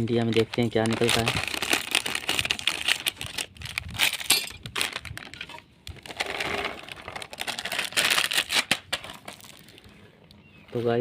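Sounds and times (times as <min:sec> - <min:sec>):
plastic snack packet crinkling: 0:00.0 - 0:09.9.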